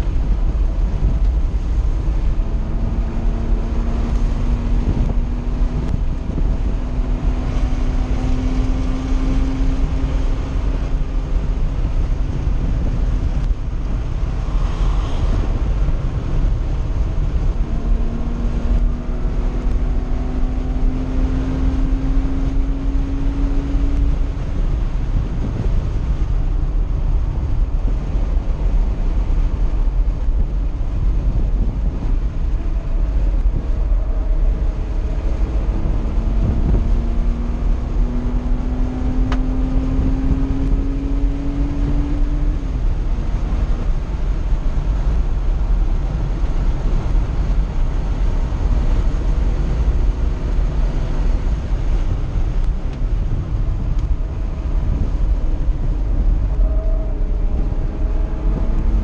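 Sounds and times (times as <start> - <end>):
car engine running hard: 0.0 - 59.0
road noise: 0.0 - 59.0
wind noise: 0.0 - 59.0.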